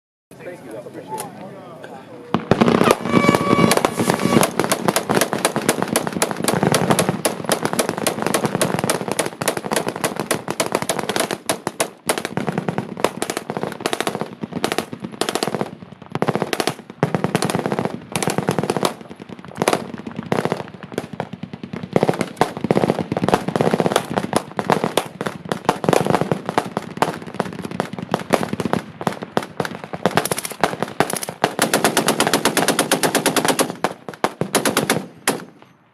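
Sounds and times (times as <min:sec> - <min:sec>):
machine guns firing: 0:02.3 - 0:35.6.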